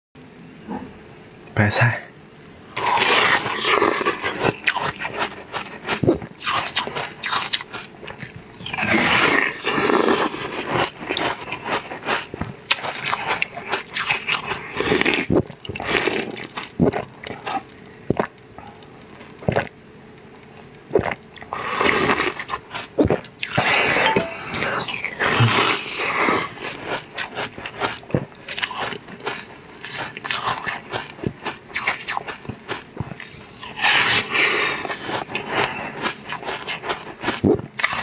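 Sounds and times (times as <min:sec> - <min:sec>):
crackly biting and chewing: 0:02.4 - 0:19.7, 0:20.4 - 0:38.0.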